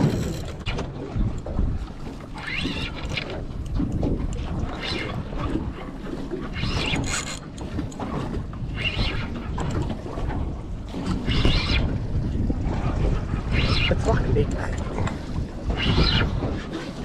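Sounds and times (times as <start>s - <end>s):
boat engine low rumble: 0.0s - 17.0s
water splashing and surging: 0.0s - 17.0s.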